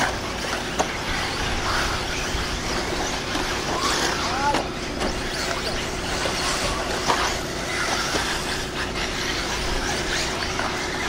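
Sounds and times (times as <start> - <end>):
electric motors whining: 0.0 - 11.0
tyres and drivetrain noise: 0.0 - 11.0.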